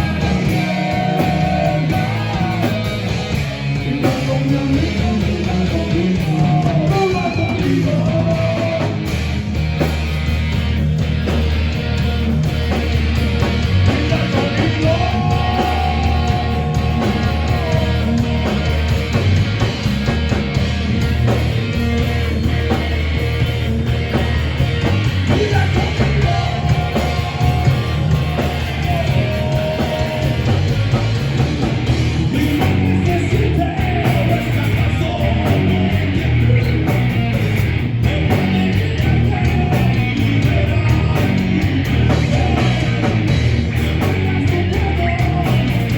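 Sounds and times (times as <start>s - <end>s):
electric guitar: 0.0s - 45.9s
live rock band: 0.0s - 45.9s.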